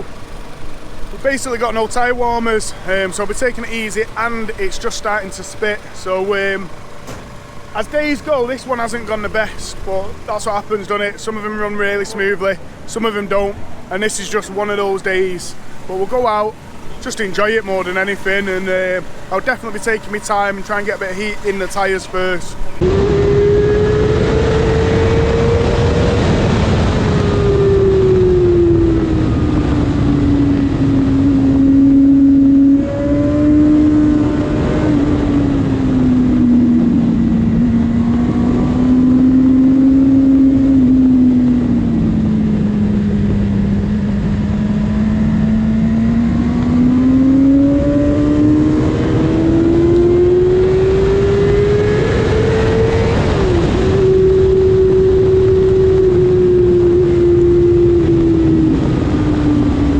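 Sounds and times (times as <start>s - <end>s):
motorcycle engine running: 0.0s - 59.9s
wind rush: 0.0s - 59.9s.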